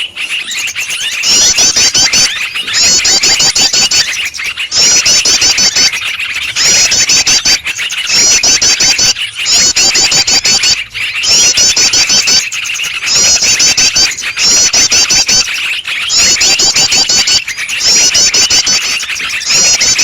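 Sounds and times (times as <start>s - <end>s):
chatter of bird calls: 0.0s - 20.0s
high-pitched bird trill: 0.0s - 20.0s.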